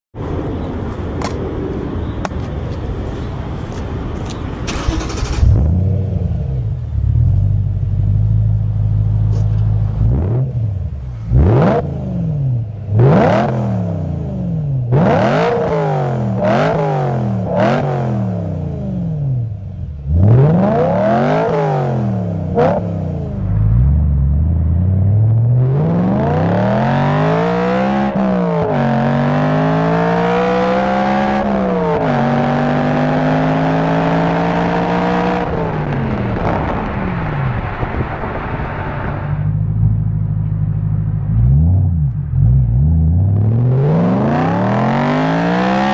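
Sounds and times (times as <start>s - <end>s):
car engine idling and revving: 0.3s - 45.9s.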